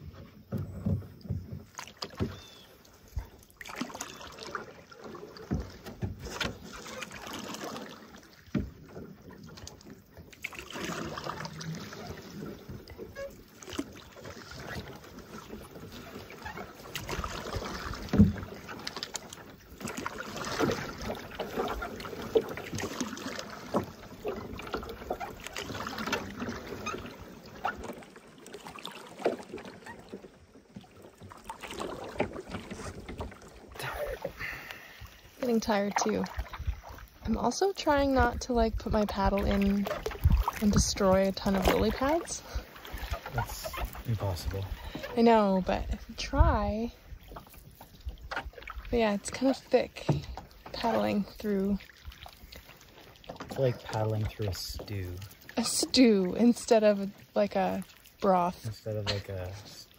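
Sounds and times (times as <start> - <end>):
canoe paddles swishing through lily pads: 0.0 - 59.9
paddle knocks: 0.1 - 33.8, 38.2 - 55.9.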